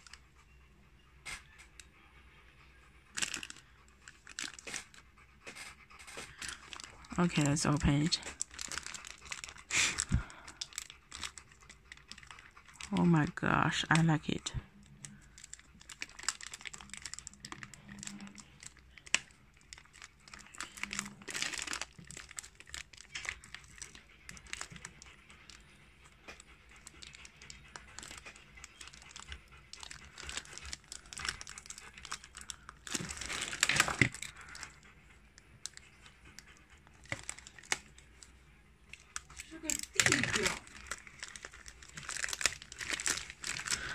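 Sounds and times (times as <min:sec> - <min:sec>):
plastic bag crinkling: 0:03.1 - 0:05.0, 0:05.6 - 0:25.6, 0:26.2 - 0:34.9, 0:35.6 - 0:38.3, 0:38.9 - 0:43.9.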